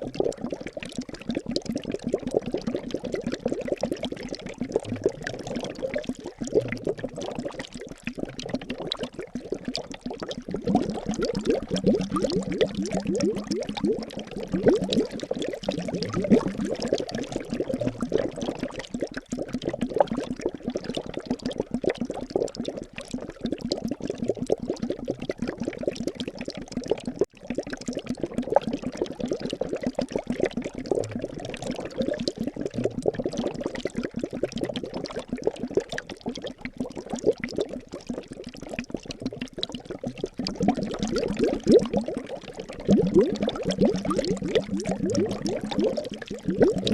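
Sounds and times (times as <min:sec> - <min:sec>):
liquid bubbling and gurgling: 0:00.0 - 0:46.9.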